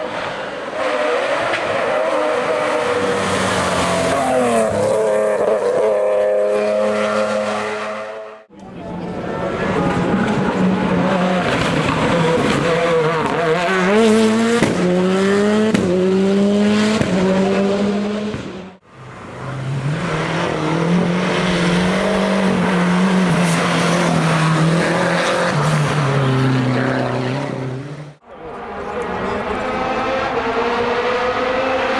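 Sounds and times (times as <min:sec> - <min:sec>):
race car engines revving: 0:00.0 - 0:31.9.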